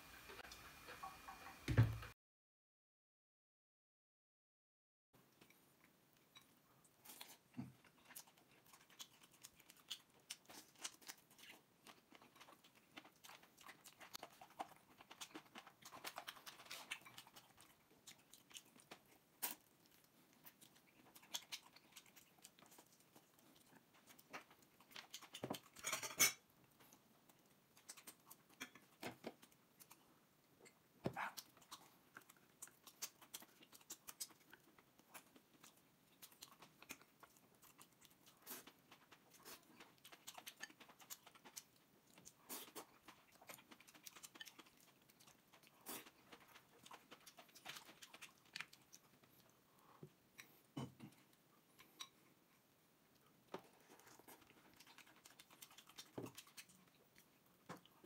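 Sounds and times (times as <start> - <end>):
person chewing: 5.3 - 58.0.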